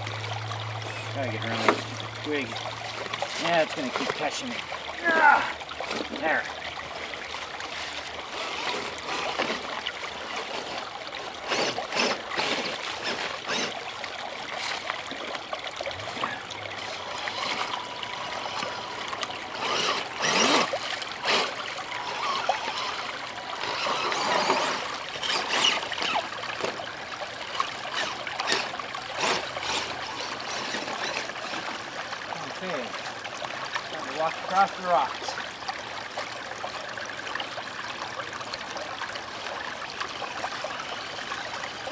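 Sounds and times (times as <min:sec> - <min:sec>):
stream trickling: 0:00.0 - 0:41.9.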